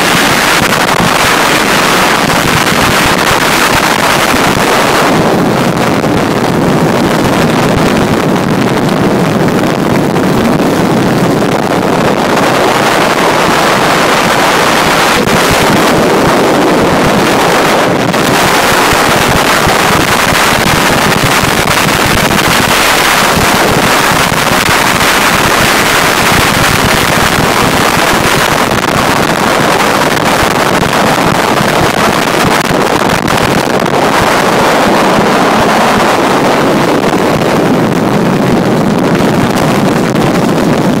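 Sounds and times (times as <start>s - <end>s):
motorcycle engine buzz: 0.0s - 41.0s
wind buffeting microphone: 0.0s - 41.0s.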